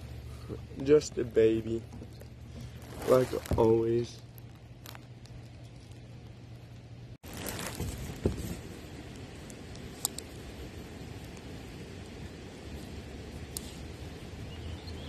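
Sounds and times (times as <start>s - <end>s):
rustling of fishing gear: 0.0s - 6.3s, 7.2s - 14.4s
outdoor background hiss: 0.0s - 15.0s.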